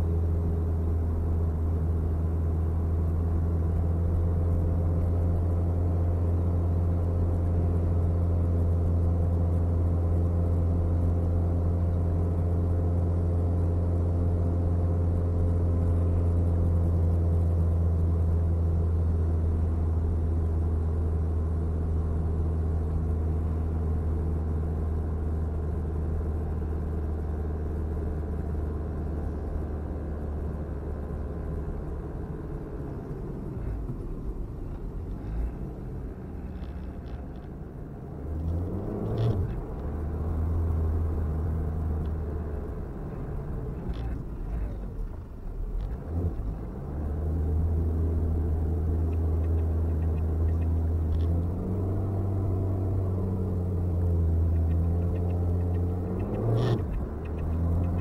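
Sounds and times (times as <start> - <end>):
car engine and road drone: 0.0 - 58.0.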